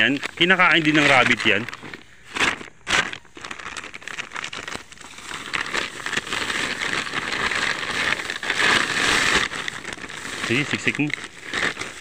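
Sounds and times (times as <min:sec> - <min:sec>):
straw rustling and crackling: 0:00.0 - 0:12.0.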